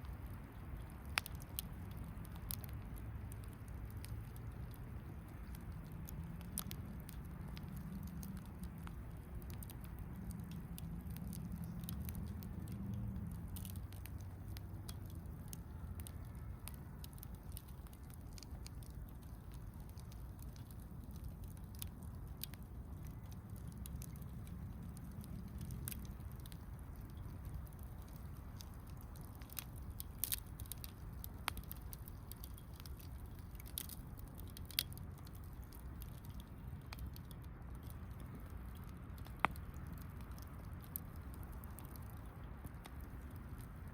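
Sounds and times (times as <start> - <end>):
campfire crackling and popping: 0.0 - 43.9
rush of burning fire: 0.0 - 43.9.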